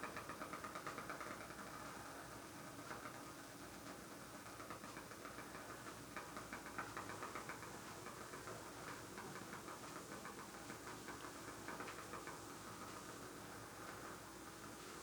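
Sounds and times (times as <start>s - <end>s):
candle flame crackling: 2.7s - 15.0s.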